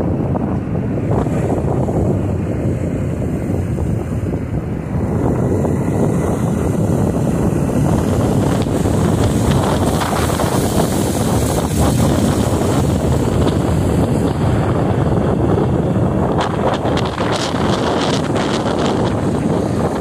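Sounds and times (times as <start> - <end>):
motorcycle engine running: 0.0 - 20.0
road noise: 0.0 - 20.0
wind buffeting microphone: 0.0 - 20.0.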